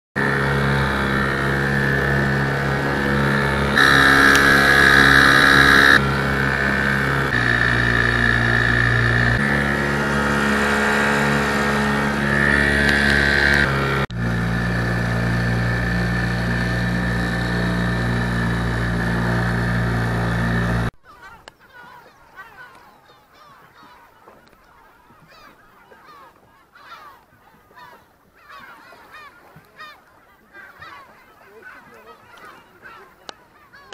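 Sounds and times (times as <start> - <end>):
boat outboard motor running: 0.2 - 33.9
gulls calling: 0.2 - 33.9.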